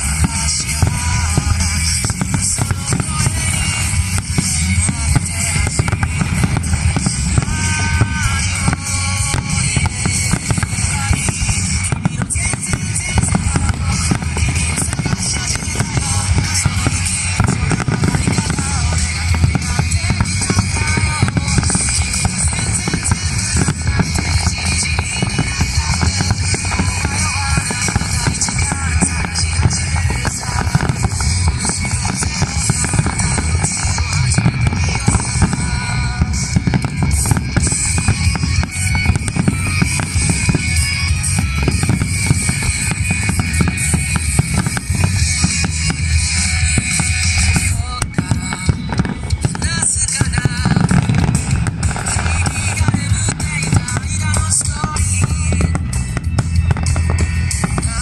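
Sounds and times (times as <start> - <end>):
fireworks bangs and crackles: 0.0 - 58.0
music with heavy bass and drums: 0.0 - 58.0.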